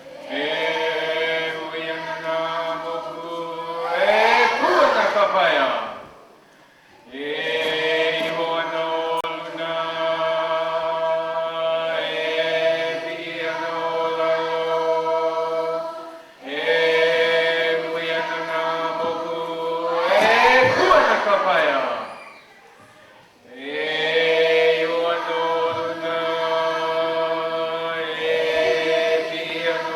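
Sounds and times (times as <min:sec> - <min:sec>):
voices chanting held notes: 0:00.0 - 0:29.9.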